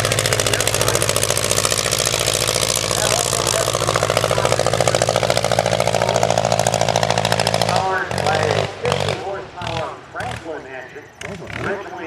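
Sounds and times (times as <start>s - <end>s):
airplane piston engine running: 0.0s - 12.0s.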